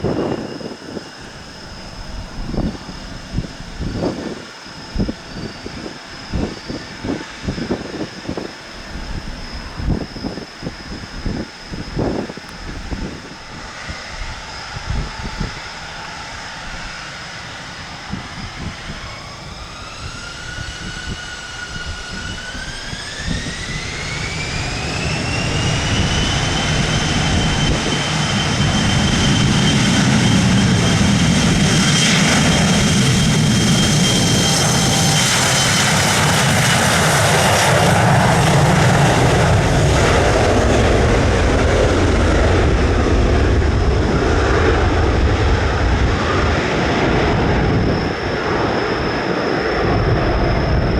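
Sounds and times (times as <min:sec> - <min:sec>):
jet engines spooling up: 0:00.0 - 0:50.9
wind buffeting microphone: 0:00.0 - 0:50.9.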